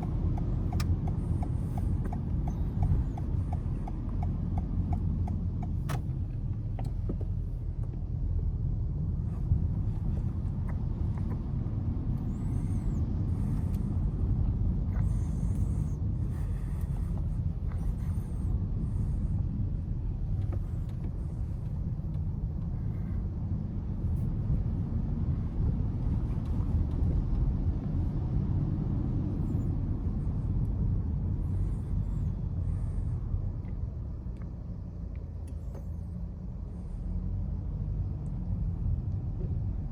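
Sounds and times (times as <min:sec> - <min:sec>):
car engine rumble: 0:00.0 - 0:39.9
tyre road noise: 0:00.0 - 0:39.9.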